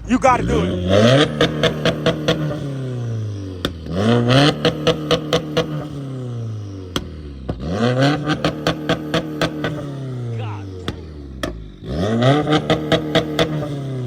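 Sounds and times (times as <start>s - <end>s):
exhaust pops and crackles: 0.0s - 6.0s, 6.8s - 14.0s
car engine revving: 0.0s - 14.0s.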